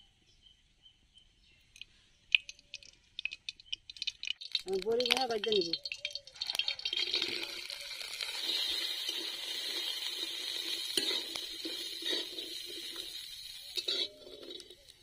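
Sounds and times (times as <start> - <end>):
oil sizzling: 2.3 - 15.0
dumplings clattering into pan: 2.4 - 15.0.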